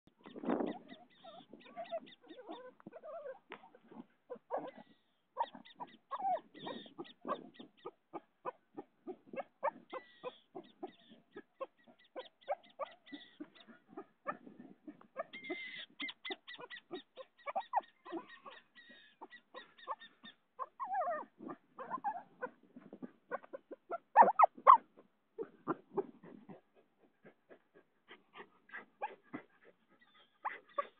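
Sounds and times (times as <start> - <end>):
dog whining: 0.7 - 24.8, 30.0 - 30.9.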